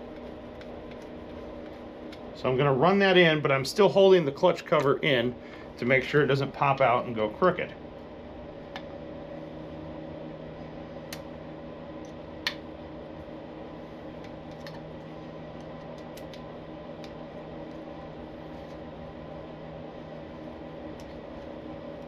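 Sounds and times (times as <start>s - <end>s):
fan or motor humming: 0.0s - 22.0s.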